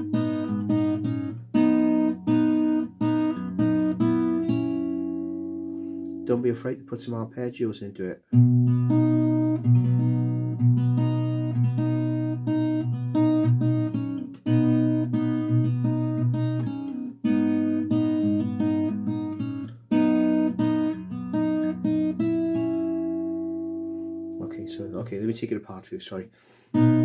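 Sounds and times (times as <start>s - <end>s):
fingerstyle acoustic guitar: 0.0s - 7.1s, 8.2s - 25.2s, 26.7s - 27.0s.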